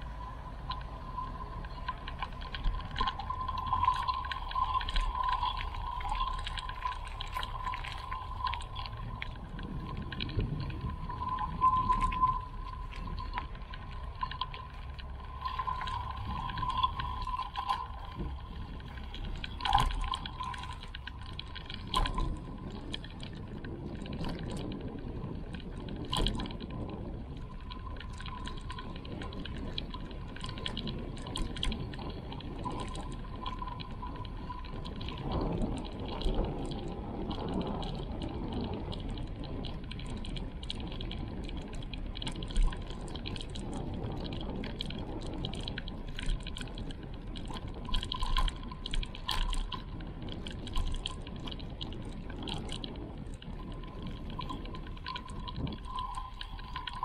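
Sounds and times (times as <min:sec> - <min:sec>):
creek trickling: 0:00.0 - 0:57.0
water splashes and drips: 0:00.0 - 0:57.0.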